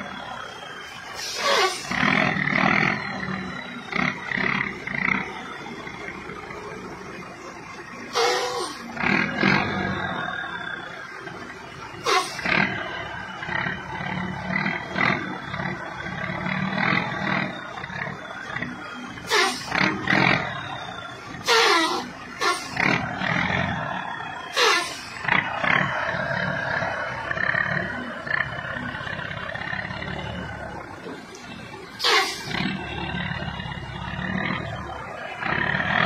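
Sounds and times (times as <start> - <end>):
bus engine running under load: 0.0 - 36.0.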